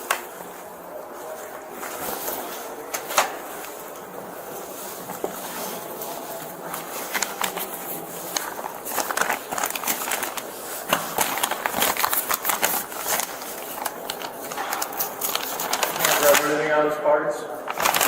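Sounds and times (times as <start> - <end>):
clothing rustling and clicking: 0.0 - 16.6, 17.7 - 18.0.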